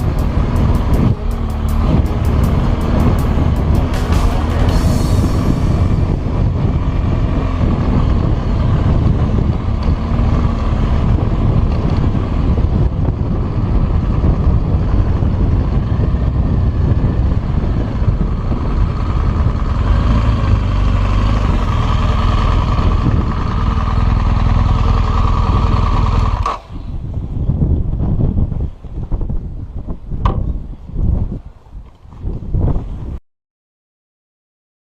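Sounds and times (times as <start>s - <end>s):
motorcycle engine riding: 0.0s - 33.0s
wind rumble on microphone: 0.0s - 33.2s.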